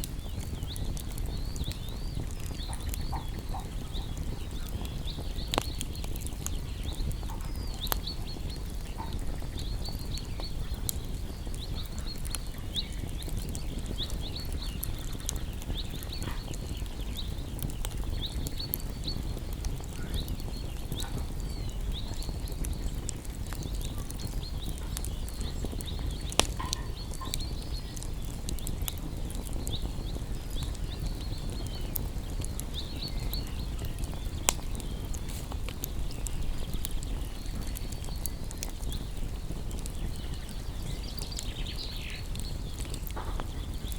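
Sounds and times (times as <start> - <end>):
campfire crackling and popping: 0.0 - 43.9
small animals chirping: 0.3 - 43.9.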